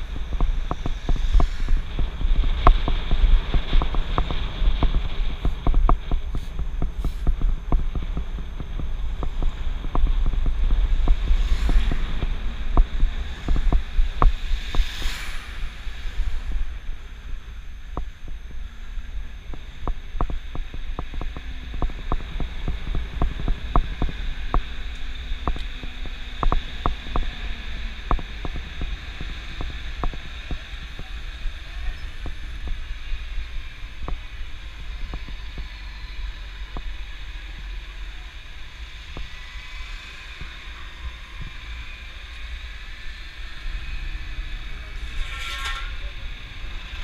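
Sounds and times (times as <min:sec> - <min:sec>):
road and traffic hiss: 0:00.0 - 0:47.0
wind buffeting microphone: 0:00.0 - 0:47.0.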